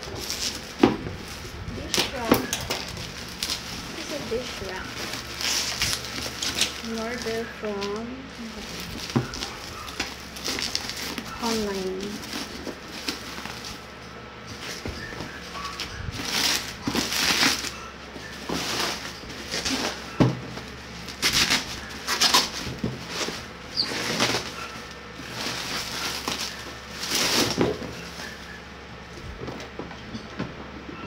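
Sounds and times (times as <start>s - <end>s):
bubble wrap crinkling: 0.0s - 29.6s.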